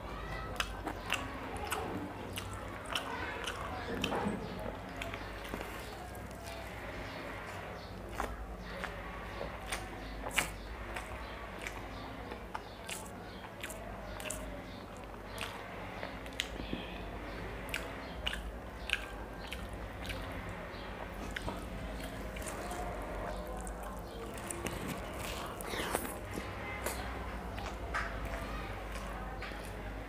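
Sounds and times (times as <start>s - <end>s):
man chewing food: 0.0s - 30.0s.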